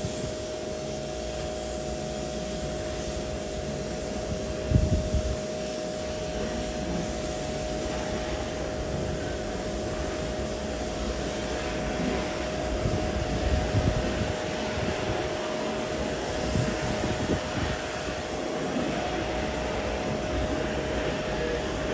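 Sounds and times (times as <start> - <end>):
machinery humming: 0.0 - 21.9
rushing noise: 0.0 - 21.9.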